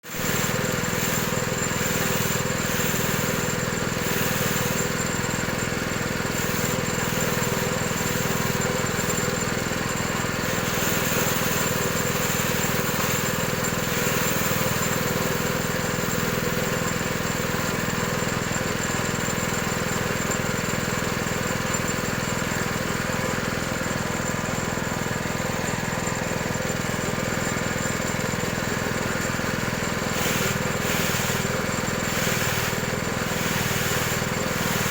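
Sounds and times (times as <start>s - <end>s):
shredding machine running: 0.0s - 21.7s, 22.3s - 34.9s.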